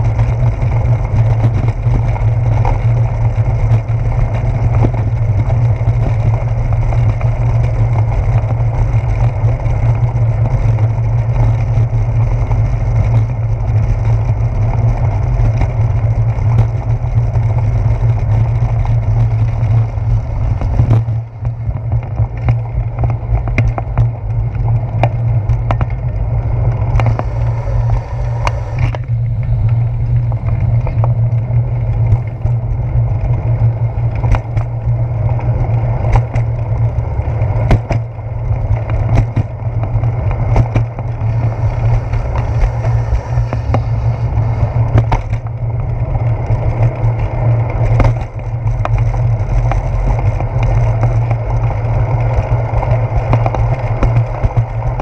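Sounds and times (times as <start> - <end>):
bicycle rolling over brick pavement: 0.0 - 55.0
bike knocking over bumps: 0.0 - 55.0
wind noise on microphone: 0.0 - 55.0.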